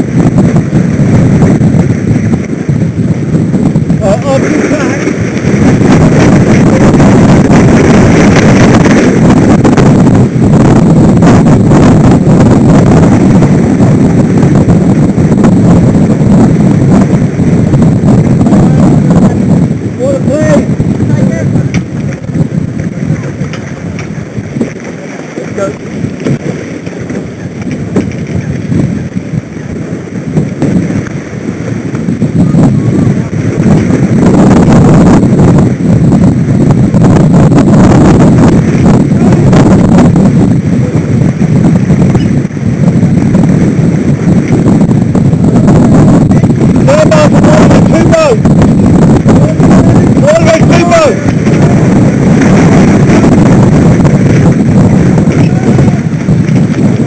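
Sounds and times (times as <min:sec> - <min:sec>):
water rushing past hull: 0:00.0 - 0:57.0
wind buffeting microphone: 0:00.0 - 0:57.0.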